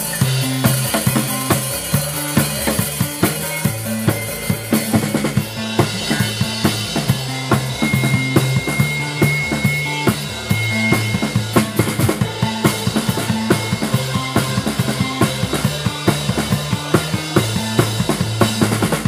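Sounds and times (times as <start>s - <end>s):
drum kit kick and snare: 0.0s - 19.0s
held bass line: 0.0s - 19.0s.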